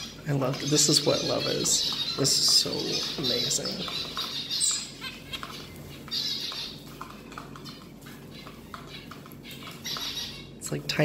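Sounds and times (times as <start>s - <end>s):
birds pecking seed: 0.0s - 11.0s.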